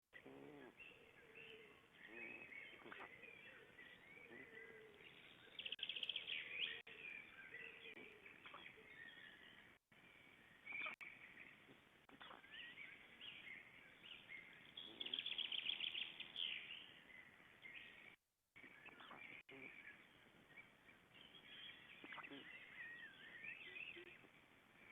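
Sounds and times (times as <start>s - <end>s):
faint bird whistles and snorts: 0.2s - 9.6s, 10.6s - 16.9s, 17.7s - 24.9s.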